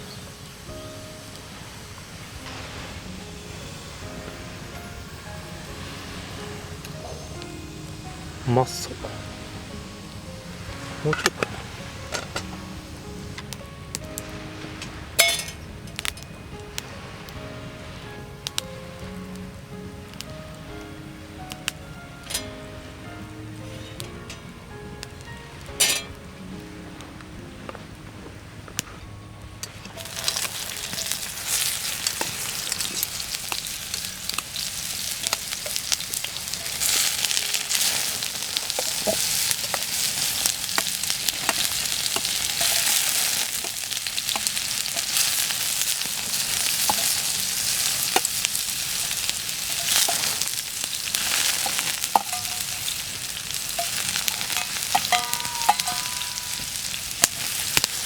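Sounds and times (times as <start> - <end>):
food sizzling in a pan: 0.0 - 28.0, 29.8 - 58.0.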